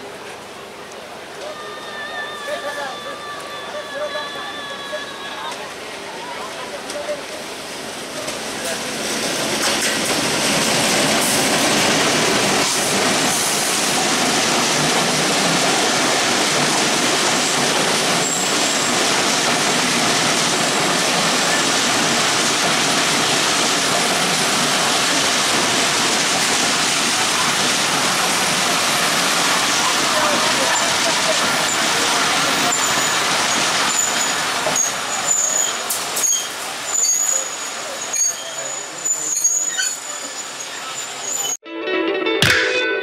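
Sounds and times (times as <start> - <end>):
train passing on rails: 0.0 - 41.6.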